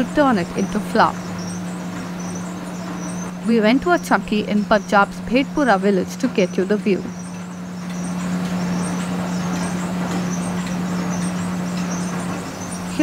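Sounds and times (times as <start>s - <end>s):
belt-driven machinery whirring: 0.0s - 13.0s
motor hum: 0.0s - 13.0s.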